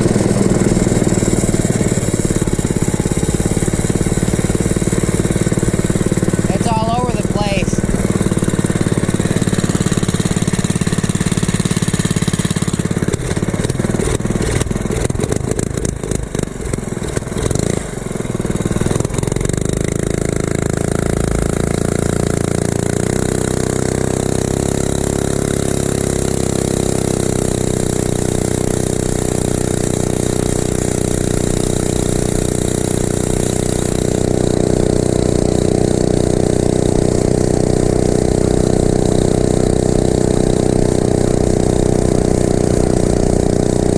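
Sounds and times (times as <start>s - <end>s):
mini bike engine running: 0.0s - 43.9s.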